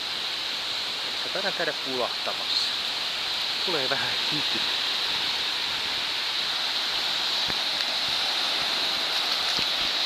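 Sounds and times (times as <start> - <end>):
small waves washing up beach: 0.0 - 10.0.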